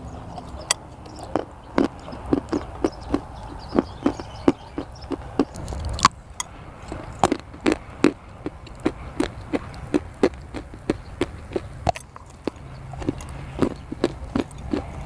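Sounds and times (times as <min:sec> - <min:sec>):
chewing crunchy clay: 0:00.0 - 0:15.0.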